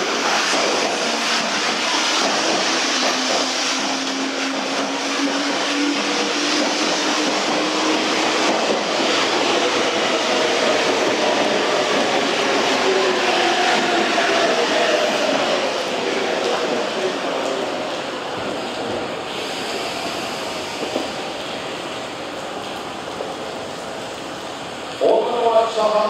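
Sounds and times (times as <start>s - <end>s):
electric train pulling in: 0.0s - 26.0s.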